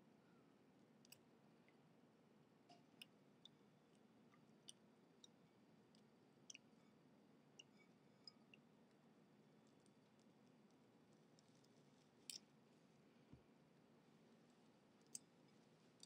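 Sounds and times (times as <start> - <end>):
low background hiss: 0.0 - 16.0.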